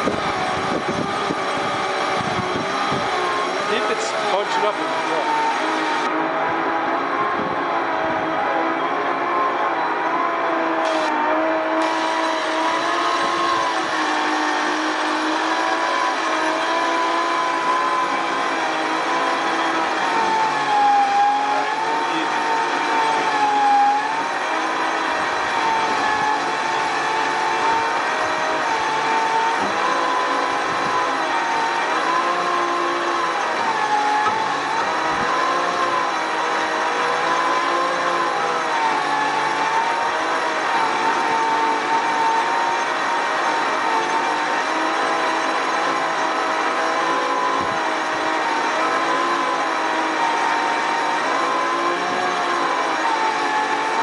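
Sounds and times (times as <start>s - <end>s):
engine running: 0.0s - 54.0s
winch whining under load: 0.0s - 54.0s.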